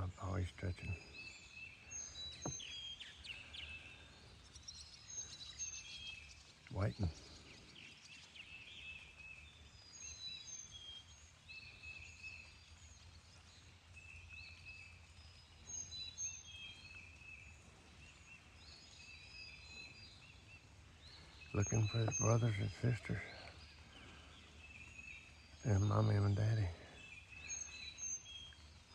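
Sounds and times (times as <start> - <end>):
birds singing faintly: 0.0 - 28.9.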